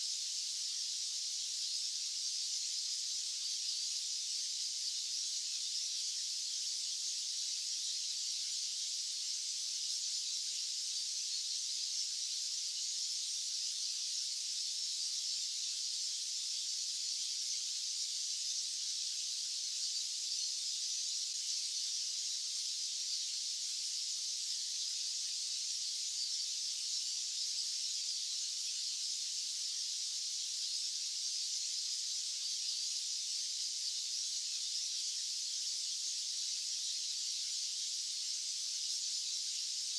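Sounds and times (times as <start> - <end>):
high-pitched white noise hiss: 0.0 - 39.9.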